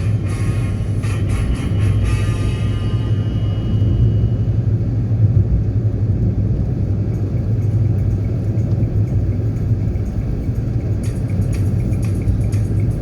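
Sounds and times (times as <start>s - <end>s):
low rumble with rushing hiss: 0.0s - 13.0s.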